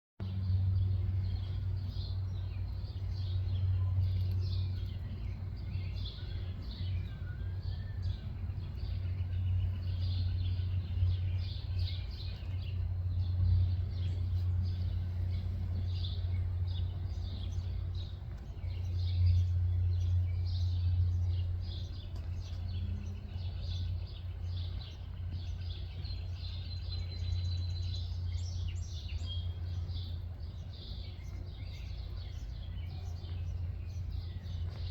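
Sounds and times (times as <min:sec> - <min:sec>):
songbirds chirping: 0:00.2 - 0:34.9
steady low rumble: 0:00.2 - 0:34.9.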